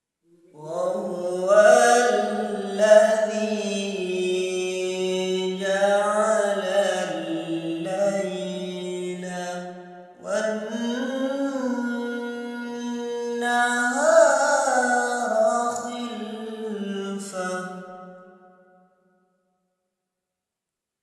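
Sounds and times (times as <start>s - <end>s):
person chanting melodic recitation: 0.3s - 17.9s.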